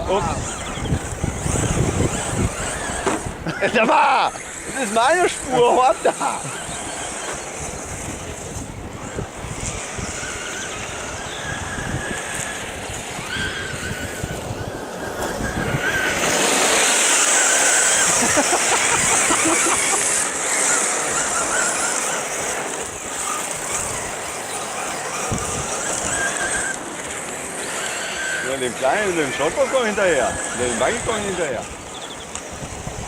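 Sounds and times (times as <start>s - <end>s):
electric motor whine: 0.0s - 33.0s
tyres hissing on dirt: 0.0s - 33.0s.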